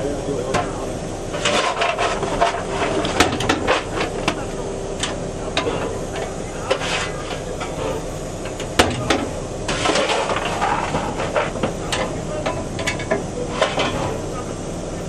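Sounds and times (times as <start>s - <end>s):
metal clanks and knocks: 0.5s - 14.2s.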